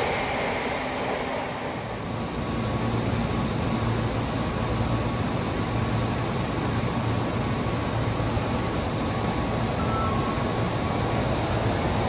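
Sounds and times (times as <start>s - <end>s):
train rumble with hum: 0.0s - 12.0s.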